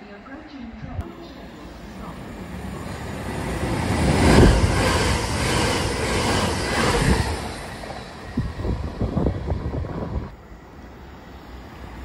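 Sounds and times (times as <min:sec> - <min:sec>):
train passing: 0:01.0 - 0:12.0.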